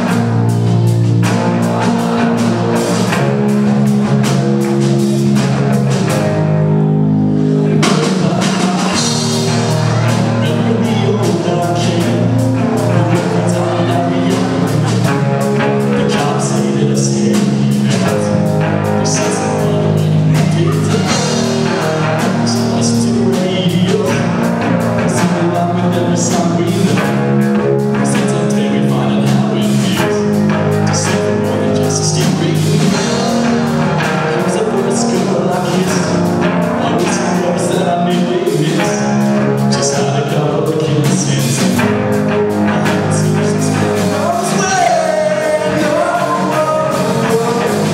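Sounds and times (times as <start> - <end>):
drum kit: 0.0 - 47.9
guitar: 0.0 - 47.9
person singing: 0.0 - 47.9.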